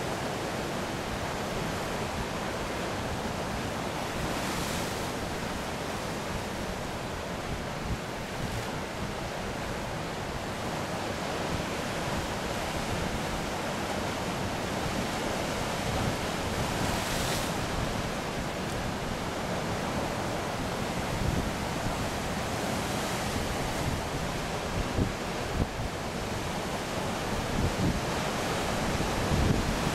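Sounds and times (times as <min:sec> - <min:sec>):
ocean surf on sand beach: 0:00.0 - 0:29.9.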